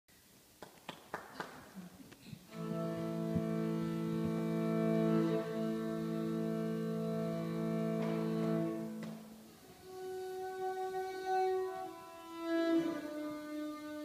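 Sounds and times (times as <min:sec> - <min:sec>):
bowed fiddle drone: 0:02.5 - 0:14.0.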